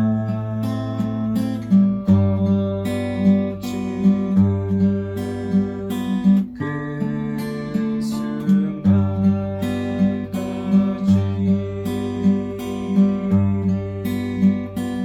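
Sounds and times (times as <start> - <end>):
fingerpicked acoustic guitar waltz: 0.0 - 15.0.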